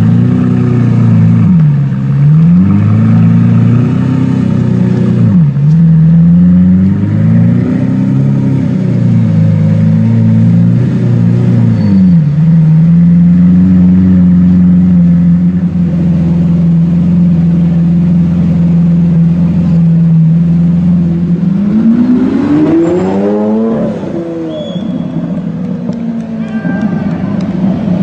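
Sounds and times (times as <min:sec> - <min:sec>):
sports car engine revving: 0:00.0 - 0:28.0.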